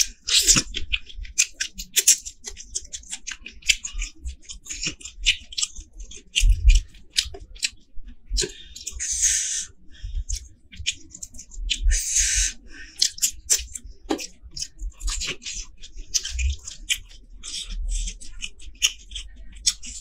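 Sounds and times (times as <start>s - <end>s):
prawns being chewed: 0.0s - 20.0s.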